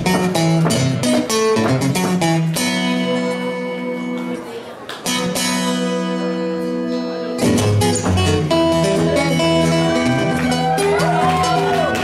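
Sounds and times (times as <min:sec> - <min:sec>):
acoustic guitar blues: 0:00.0 - 0:12.0.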